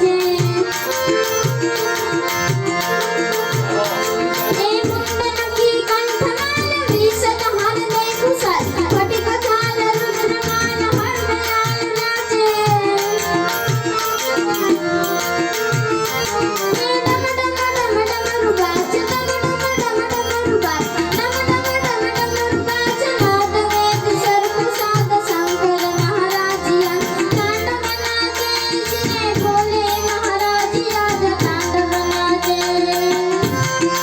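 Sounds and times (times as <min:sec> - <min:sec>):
tabla drum strokes: 0:00.0 - 0:34.0.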